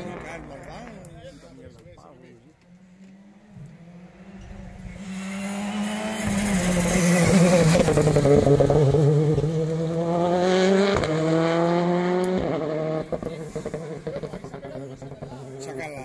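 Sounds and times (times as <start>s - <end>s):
rally car passing and accelerating: 0.0s - 16.0s.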